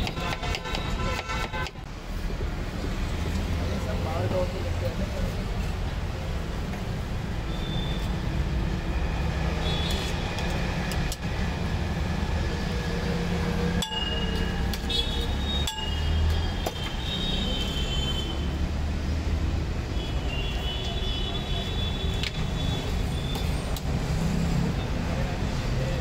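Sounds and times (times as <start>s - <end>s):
street traffic rumbling: 0.0s - 26.0s.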